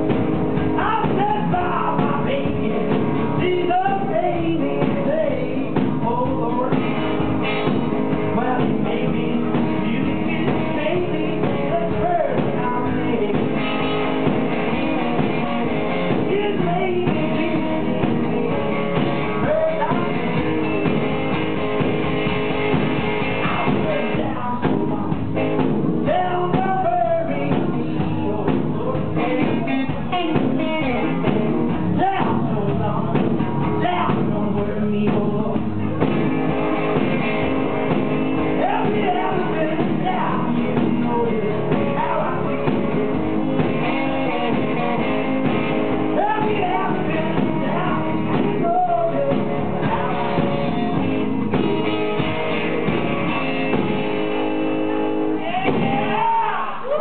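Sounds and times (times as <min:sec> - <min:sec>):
instrumental accompaniment: 0:00.0 - 0:34.4, 0:35.1 - 0:56.4
man singing blues: 0:00.0 - 0:57.0.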